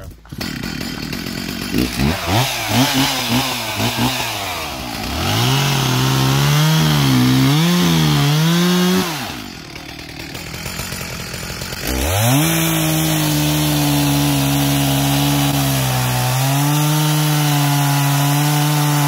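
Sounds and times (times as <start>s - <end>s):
chainsaw revving and cutting: 0.0s - 19.0s.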